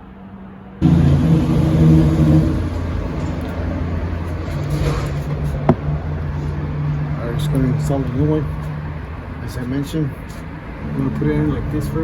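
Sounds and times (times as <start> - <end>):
vehicle engine running: 0.8 - 12.0.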